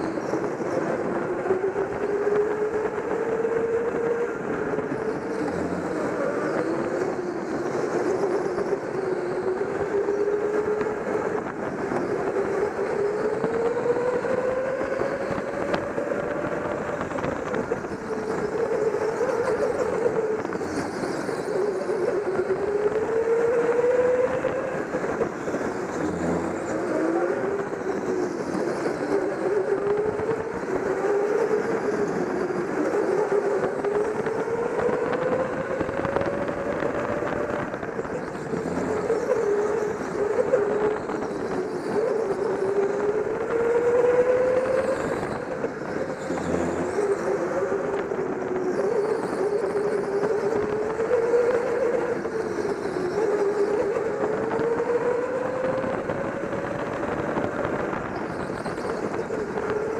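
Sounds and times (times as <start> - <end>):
go-kart motor revving: 0.0 - 59.9.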